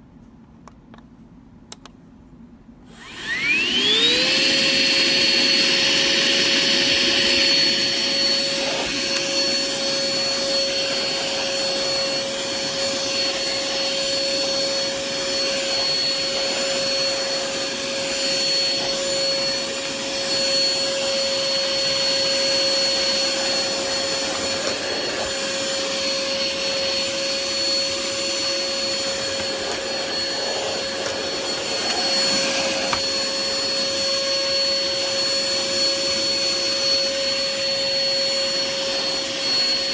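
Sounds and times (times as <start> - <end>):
vacuum cleaner motor whining: 2.9 - 39.9.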